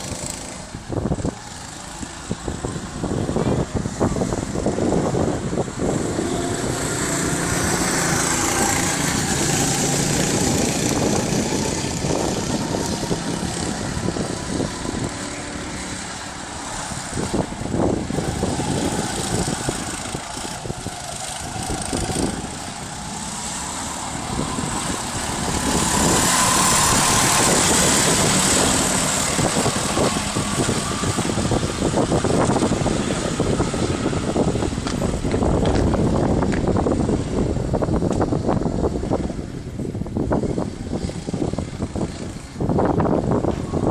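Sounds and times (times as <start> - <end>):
go-kart engines: 0.0 - 43.9.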